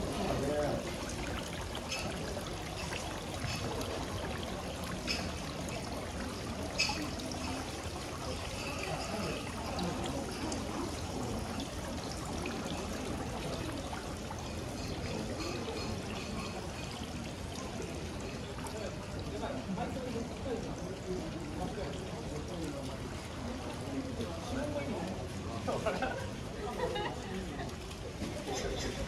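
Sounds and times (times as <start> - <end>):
running water trickling: 0.0 - 29.0.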